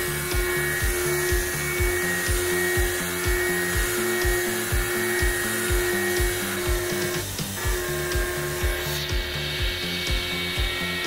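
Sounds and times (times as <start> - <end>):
background music with a beat: 0.0 - 11.0
milling machine spindle whine: 0.0 - 11.0.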